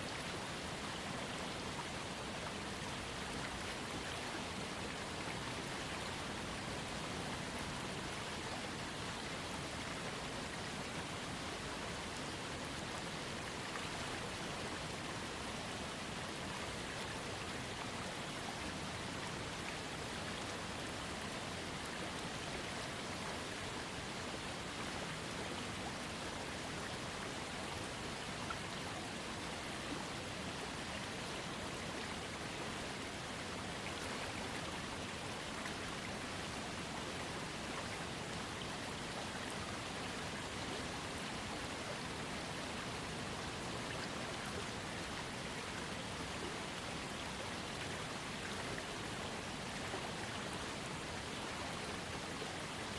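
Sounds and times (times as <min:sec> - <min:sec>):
small waterfall rushing: 0:00.0 - 0:52.9.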